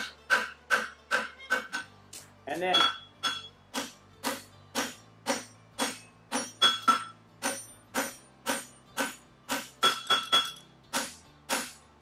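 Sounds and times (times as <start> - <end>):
hammer striking horseshoe on anvil: 0.0 - 1.9, 2.5 - 11.8.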